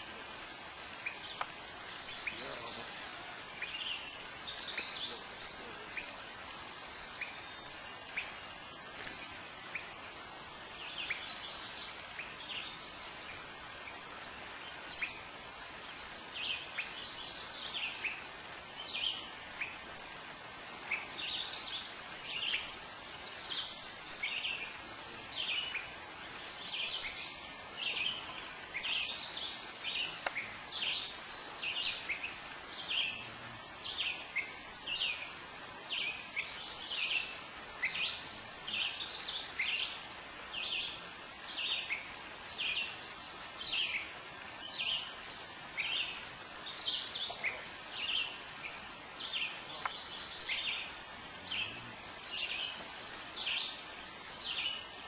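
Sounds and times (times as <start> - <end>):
songbirds chirping: 0.0 - 55.0
steady background hiss: 0.0 - 55.0.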